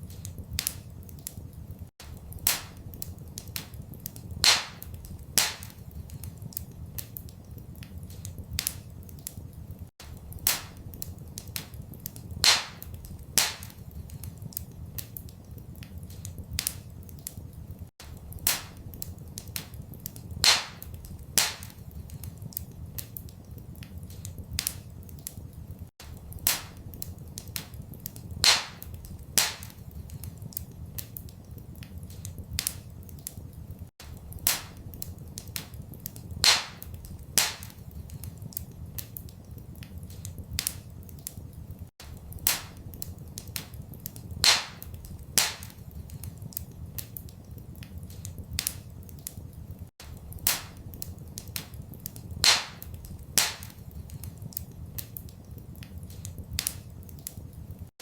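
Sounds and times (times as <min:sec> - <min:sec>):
sharp pops and snaps of fire: 0:00.0 - 0:58.0
wood fire crackling: 0:00.0 - 0:58.0.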